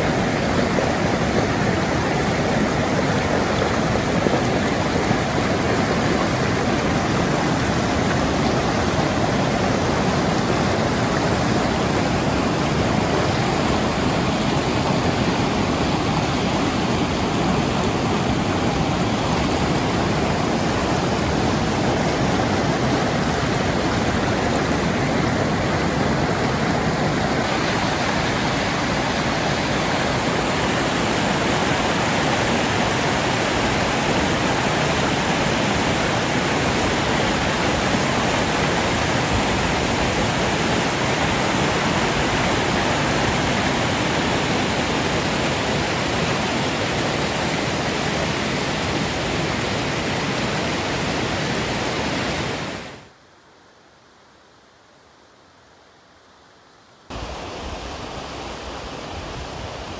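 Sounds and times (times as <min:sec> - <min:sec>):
rushing river water: 0:00.0 - 0:53.2, 0:56.9 - 0:59.9.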